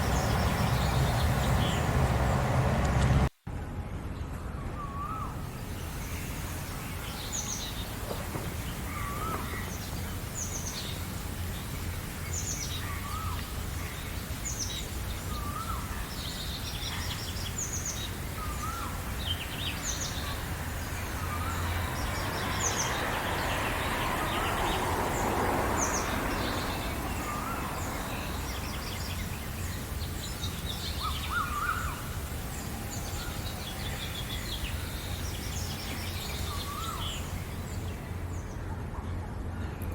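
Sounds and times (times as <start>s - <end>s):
birds calling: 0.0s - 3.3s, 4.8s - 38.7s.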